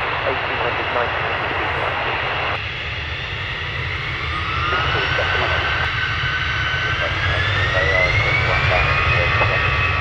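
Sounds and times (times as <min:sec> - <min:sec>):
jet engine rumble: 0:00.0 - 0:10.0
jet engine whine: 0:00.0 - 0:10.0.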